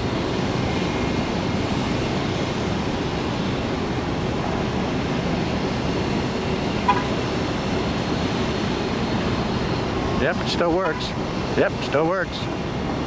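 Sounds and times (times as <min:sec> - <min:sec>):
steady rumbling noise: 0:00.0 - 0:13.0.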